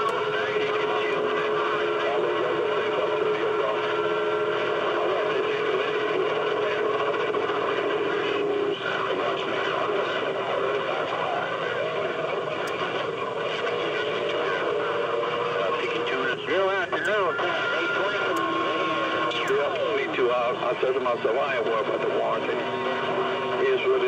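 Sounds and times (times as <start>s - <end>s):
faint garbled voices: 0.0s - 24.0s
radio static hissing: 0.0s - 24.0s.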